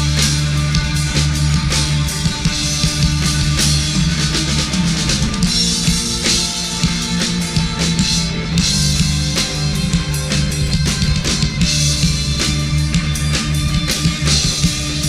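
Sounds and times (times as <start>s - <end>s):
bass guitar: 0.0s - 15.0s
distorted electric guitar: 0.0s - 15.0s
drum kit: 0.0s - 15.0s.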